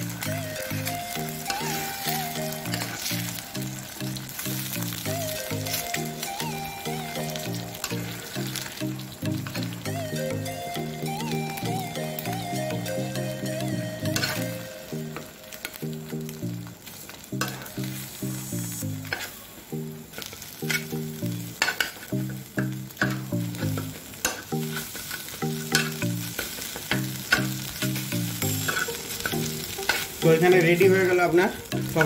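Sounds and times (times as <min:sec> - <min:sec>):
eggs sizzling in frying pan: 0:00.0 - 0:32.0.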